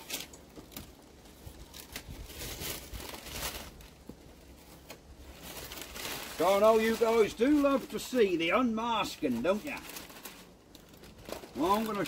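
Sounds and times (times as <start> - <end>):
paper crinkling and tearing: 0.0 - 12.0.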